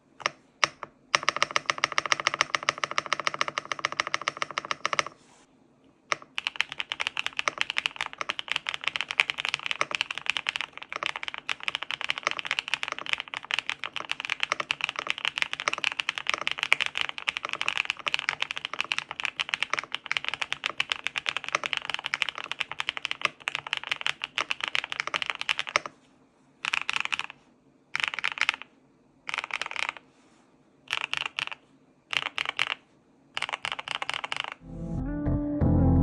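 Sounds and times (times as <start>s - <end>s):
mechanical keyboard typing: 0.2s - 5.2s, 6.1s - 25.9s, 26.6s - 27.4s, 28.0s - 28.7s, 29.3s - 30.0s, 30.9s - 32.8s, 33.4s - 34.6s.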